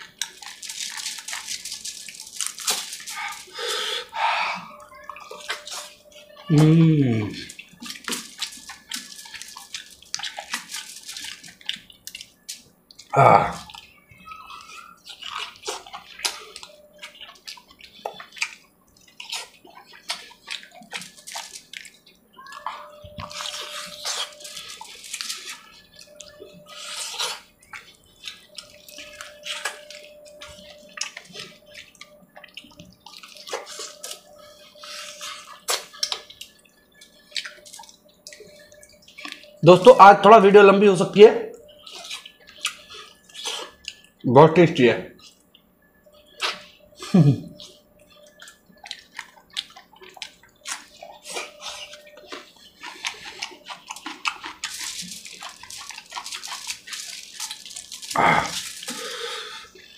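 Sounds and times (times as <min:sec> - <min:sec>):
wet chewing and lip-smacking: 0:00.0 - 0:44.2, 0:45.1 - 0:59.9.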